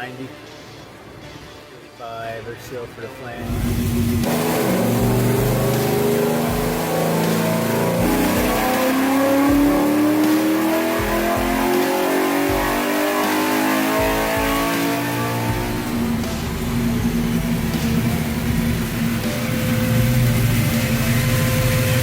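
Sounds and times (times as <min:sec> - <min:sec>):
vee eight engine revving and idling: 0:03.4 - 0:22.0.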